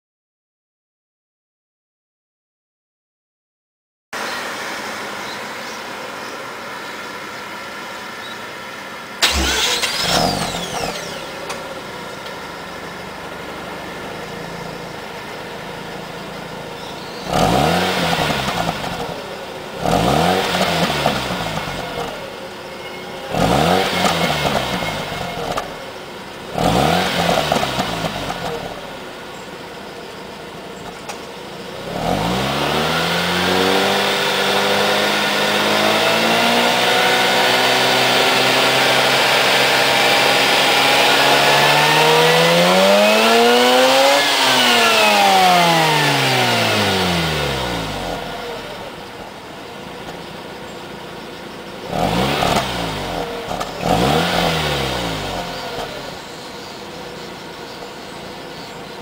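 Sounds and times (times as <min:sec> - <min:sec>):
rotary engine revving: 0:09.2 - 0:59.0.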